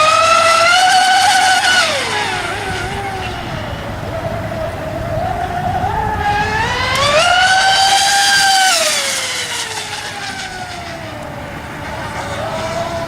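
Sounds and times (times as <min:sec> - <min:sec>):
model boat motor whine: 0:00.0 - 0:13.0.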